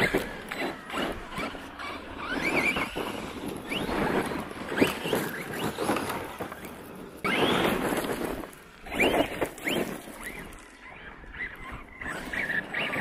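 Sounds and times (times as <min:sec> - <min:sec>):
electric motors whining: 0:00.0 - 0:13.0
tyres on loose gravel: 0:00.0 - 0:13.0.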